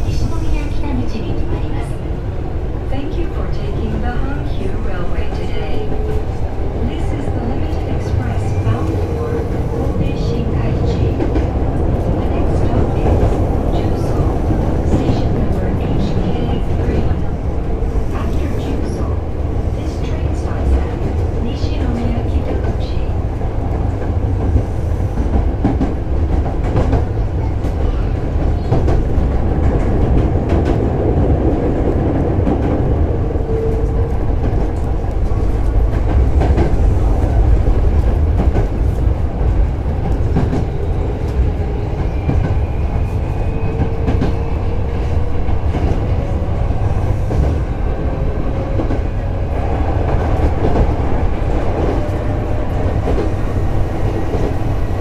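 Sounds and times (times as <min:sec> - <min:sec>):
train wheel rumble on rails: 0:00.0 - 0:55.0
rail-joint clickety-clack: 0:03.5 - 0:17.4, 0:19.7 - 0:55.0.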